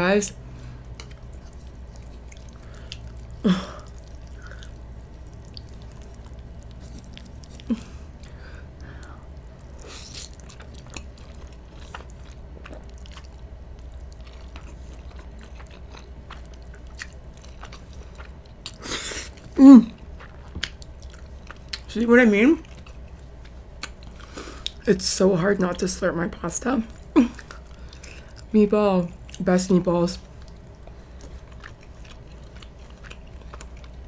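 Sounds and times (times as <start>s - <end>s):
chewing spaghetti: 0.6s - 22.0s, 22.6s - 24.8s, 26.9s - 28.5s, 30.2s - 34.0s.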